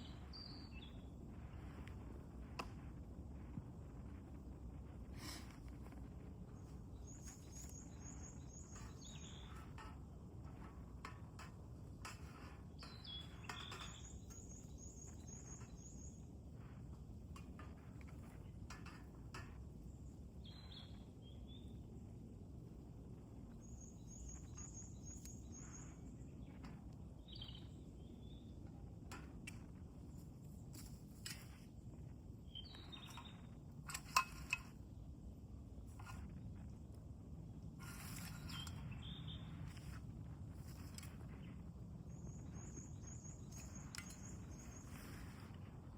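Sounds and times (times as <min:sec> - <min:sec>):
low outdoor rumble: 0:00.0 - 0:45.9.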